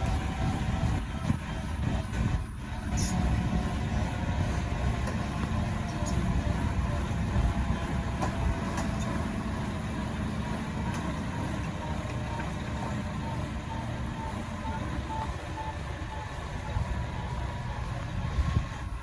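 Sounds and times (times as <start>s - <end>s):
helicopter rotor beat: 0.0s - 19.0s
turbine engine: 0.0s - 19.0s.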